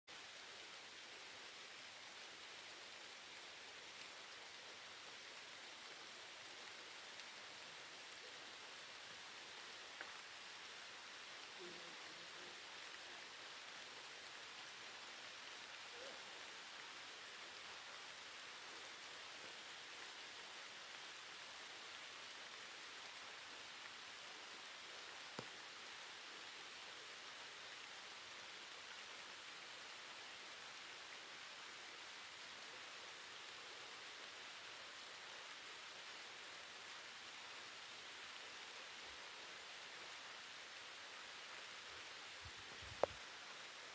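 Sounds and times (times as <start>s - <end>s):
rain falling: 0.1s - 43.9s.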